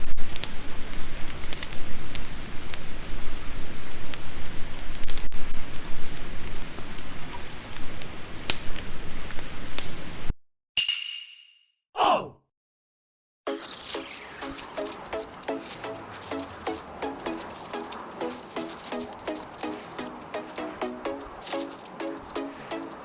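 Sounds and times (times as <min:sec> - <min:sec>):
campfire hissing: 0:00.0 - 0:10.3, 0:13.5 - 0:23.0
fire crackling and popping: 0:00.0 - 0:10.3, 0:13.5 - 0:23.0.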